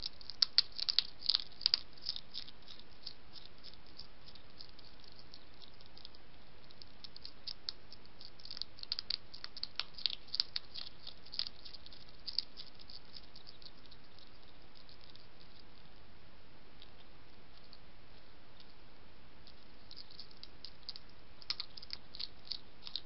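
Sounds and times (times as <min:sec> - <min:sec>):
hedgehog crunching biscuits: 0:00.0 - 0:15.8, 0:19.4 - 0:23.0.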